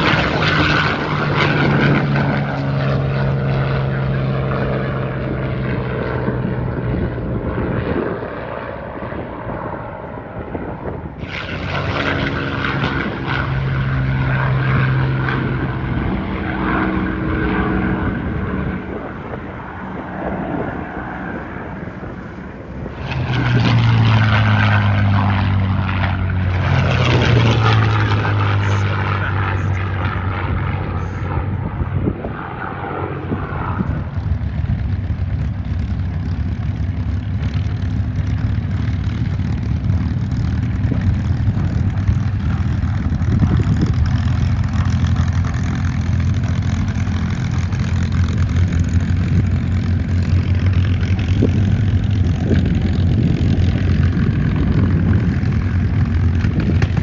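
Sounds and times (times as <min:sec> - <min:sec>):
propeller planes flying past: 0:00.0 - 0:57.0.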